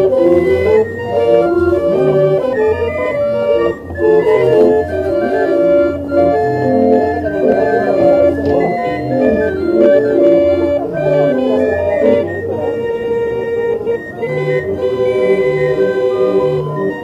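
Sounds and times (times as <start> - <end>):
barrel organ playing tune: 0.0 - 17.0.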